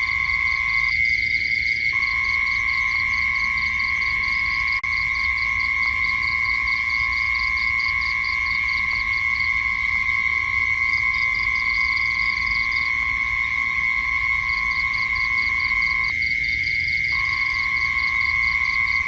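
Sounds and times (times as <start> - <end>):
high-pitched insect drone: 0.0 - 19.0
rapid pulsing insect chirp: 0.0 - 19.0.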